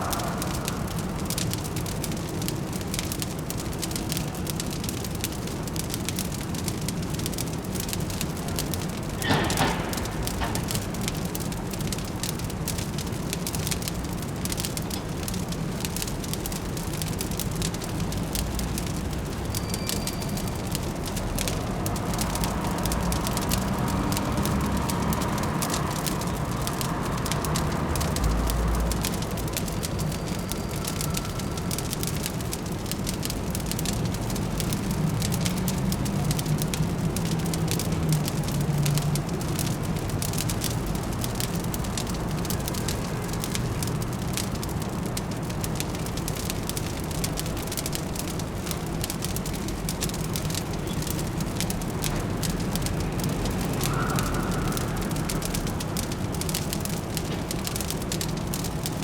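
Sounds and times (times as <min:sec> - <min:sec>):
fireplace fire crackling: 0:00.0 - 0:59.0
low city hum: 0:00.0 - 0:59.0.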